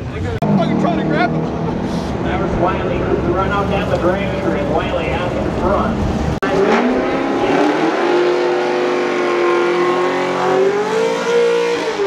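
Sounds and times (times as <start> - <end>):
race car accelerating at full throttle: 0.0 - 12.0.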